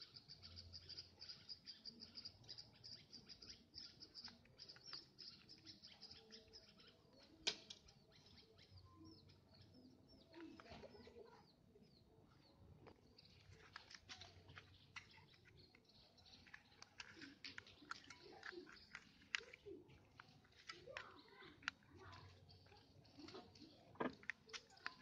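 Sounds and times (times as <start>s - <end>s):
faint small birds chirping: 0.0s - 25.0s.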